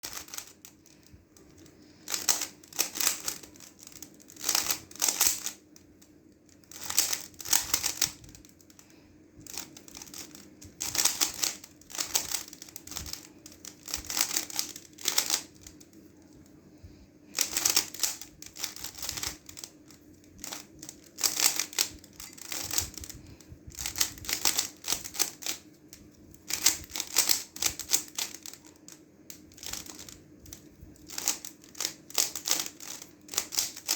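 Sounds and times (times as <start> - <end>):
speed cube clicking and rattling: 0.0 - 16.4, 17.3 - 33.9.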